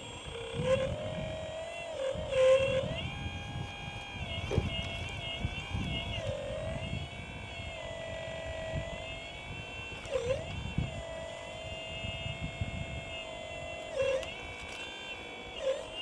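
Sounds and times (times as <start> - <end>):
model excavator motor whining: 0.0 - 16.0.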